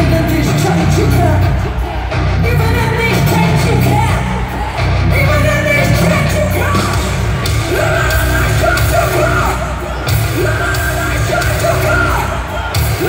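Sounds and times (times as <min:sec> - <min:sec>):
live heavy metal band playing: 0:00.0 - 0:13.0
person singing and yelling: 0:00.0 - 0:13.0.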